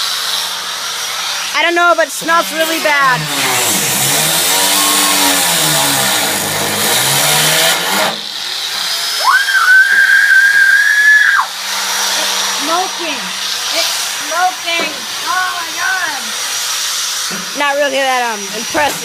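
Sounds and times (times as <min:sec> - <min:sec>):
power tool grinding metal: 0:00.0 - 0:19.0.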